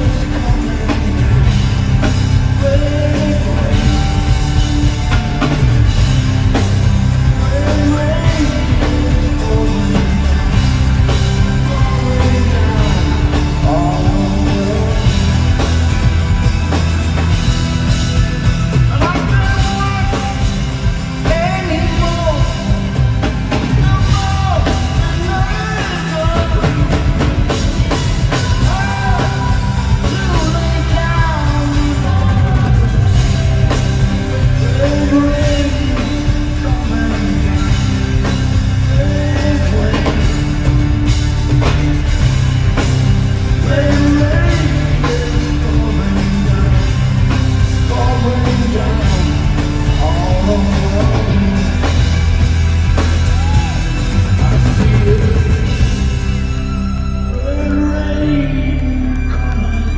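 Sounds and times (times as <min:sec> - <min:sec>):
live rock band playing: 0:00.0 - 0:59.8
man singing: 0:00.0 - 0:59.9.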